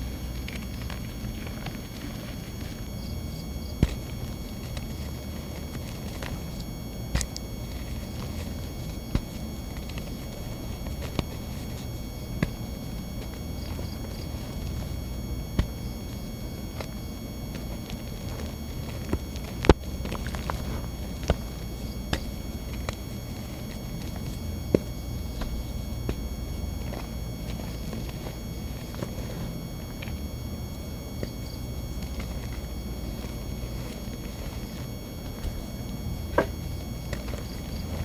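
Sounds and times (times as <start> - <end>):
cornstarch blocks crunching: 0.0 - 38.0
steady electrical buzz: 0.0 - 38.0.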